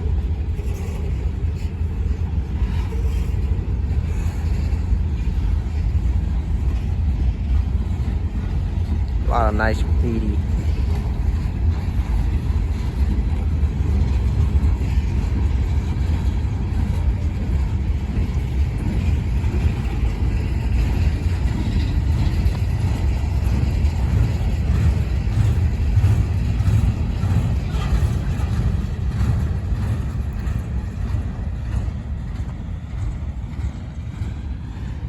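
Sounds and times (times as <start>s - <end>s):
diesel locomotive rumbling: 0.0s - 35.0s.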